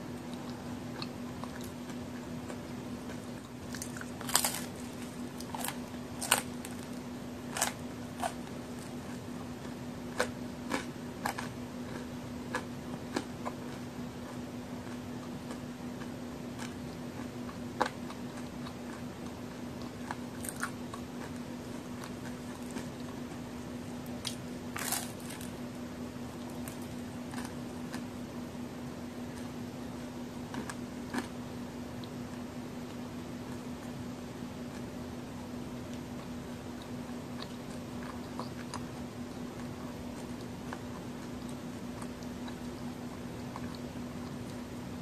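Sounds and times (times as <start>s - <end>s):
crunchy cookie bites and chewing: 0.0s - 45.0s
steady low hum: 0.0s - 45.0s.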